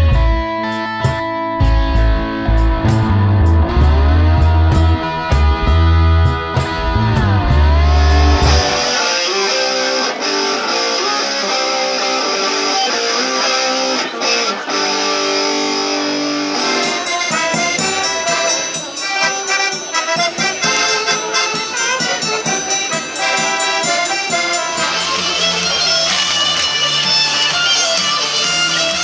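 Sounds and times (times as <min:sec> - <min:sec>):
instrumental guitar music: 0:00.0 - 0:29.0
folk band playing a dance tune: 0:02.2 - 0:29.0.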